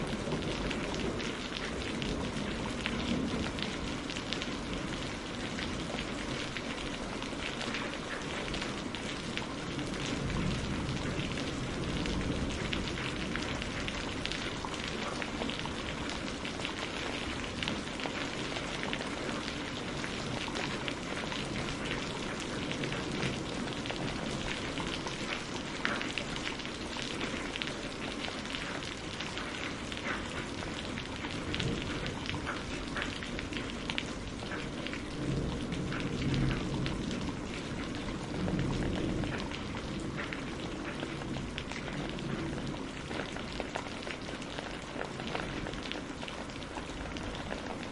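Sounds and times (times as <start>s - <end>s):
rain on a greenhouse roof: 0.0s - 47.9s.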